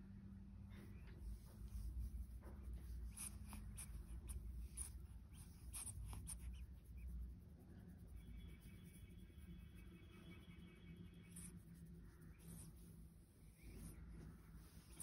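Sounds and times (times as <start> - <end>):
fingertips rubbing hair: 0.9 - 10.6, 11.2 - 15.0.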